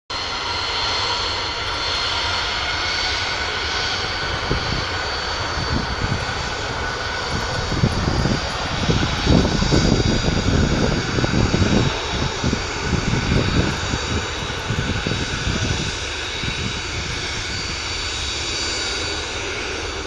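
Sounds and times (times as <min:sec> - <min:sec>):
jet engines whining: 0:00.1 - 0:20.0
gusty low rumble: 0:00.2 - 0:20.0.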